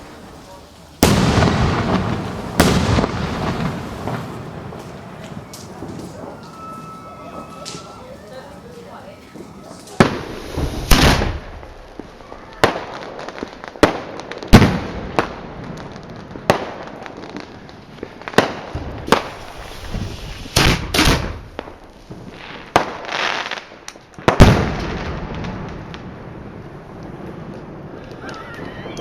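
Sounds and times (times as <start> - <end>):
fireworks banging with rumbling echo: 0.0 - 29.0.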